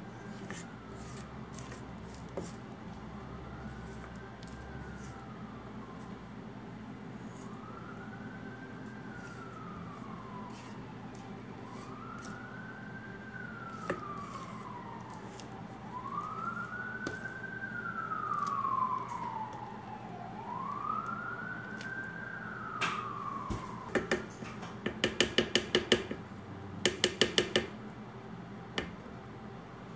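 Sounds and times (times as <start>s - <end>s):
siren wailing: 0.0s - 24.4s.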